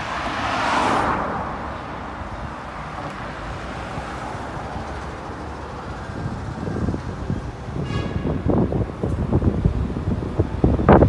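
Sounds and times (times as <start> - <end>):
road noise: 0.0 - 11.0
wind buffeting microphone: 2.1 - 11.0.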